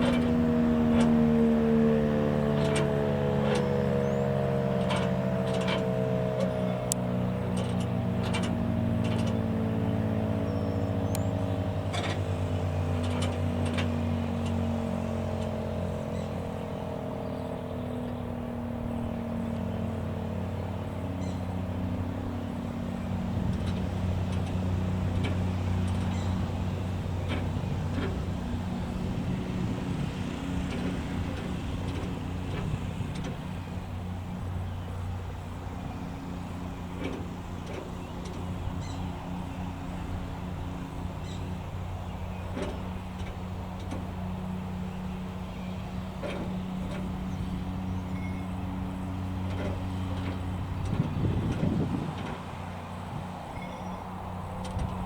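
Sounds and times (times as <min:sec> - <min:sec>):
warning sirens winding down: 0:00.0 - 0:55.0.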